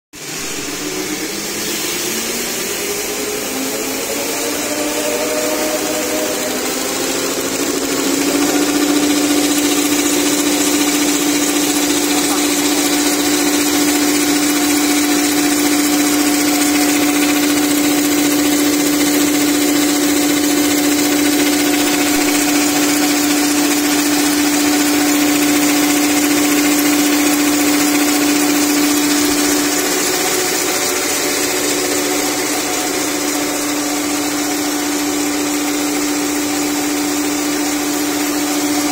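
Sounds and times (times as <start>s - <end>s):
packing machine humming and whirring: 0.2s - 38.9s
rising machine whine: 0.2s - 38.9s.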